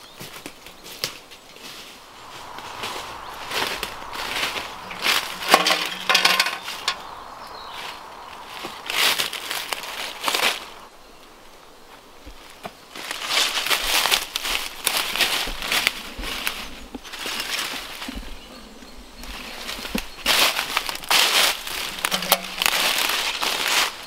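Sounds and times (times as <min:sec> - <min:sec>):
footsteps crunching through leaves: 0:00.1 - 0:10.9, 0:11.9 - 0:18.5, 0:19.3 - 0:24.0.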